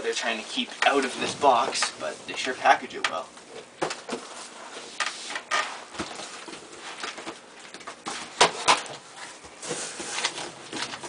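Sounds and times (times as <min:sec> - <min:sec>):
packaging rustling and crinkling: 0:00.2 - 0:11.0.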